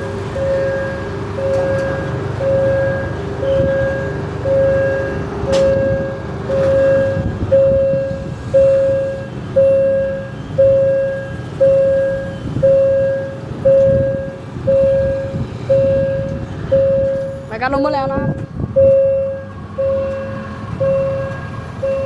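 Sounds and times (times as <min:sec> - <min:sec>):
level crossing alarm beeping: 0:00.0 - 0:22.0
low rumble of passing vehicle: 0:00.0 - 0:22.0.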